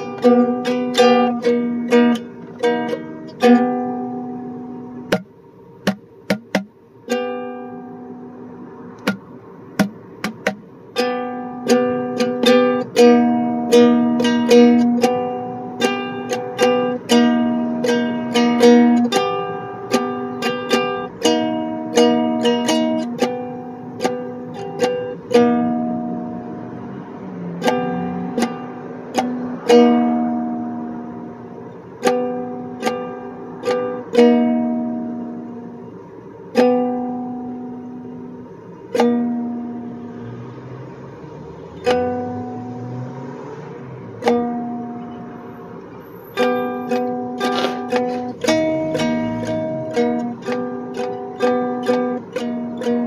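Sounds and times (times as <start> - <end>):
ukulele strumming chords: 0.0 - 53.0.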